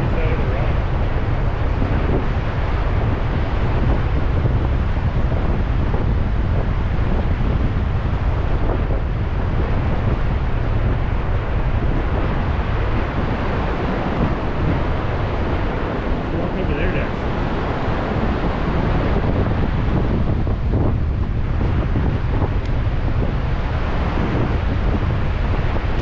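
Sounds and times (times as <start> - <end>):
ocean surf: 0.0 - 26.0
wind buffeting microphone: 0.0 - 26.0.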